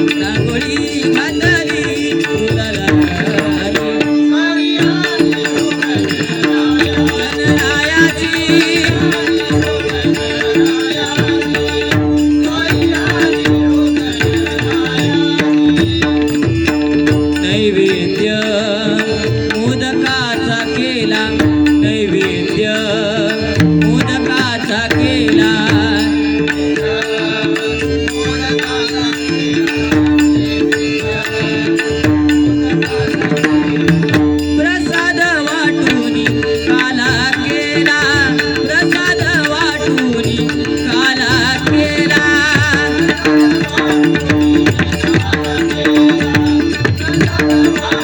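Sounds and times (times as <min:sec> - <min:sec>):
hand drum rhythm: 0:00.0 - 0:48.0.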